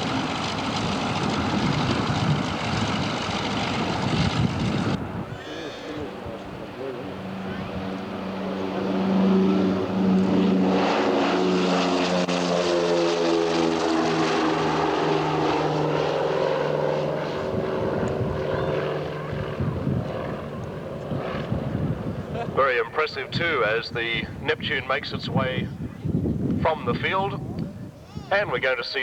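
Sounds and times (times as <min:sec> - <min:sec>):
propeller aircraft engines droning: 0:00.0 - 0:29.0.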